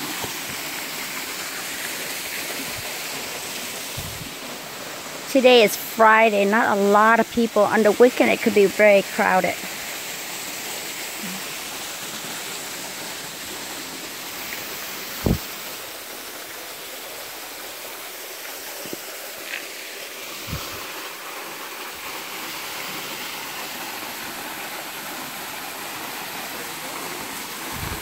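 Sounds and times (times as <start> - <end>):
stream and waterfall rushing: 0.0 - 28.0.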